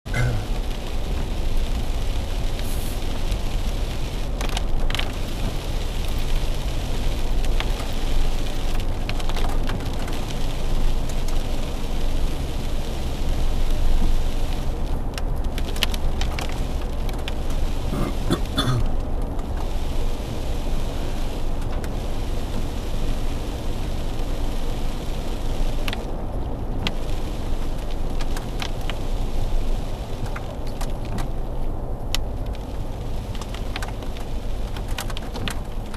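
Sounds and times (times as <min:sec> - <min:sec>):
engine and tyre rumble: 0:00.0 - 0:35.9
tyres hissing on wet road: 0:00.1 - 0:31.7
rain on windshield: 0:00.1 - 0:35.9.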